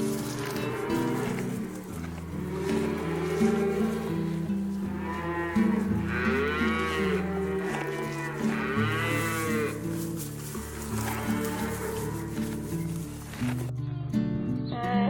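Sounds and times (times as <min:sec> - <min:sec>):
cow mooing: 0:00.0 - 0:12.9
background music: 0:00.0 - 0:15.0.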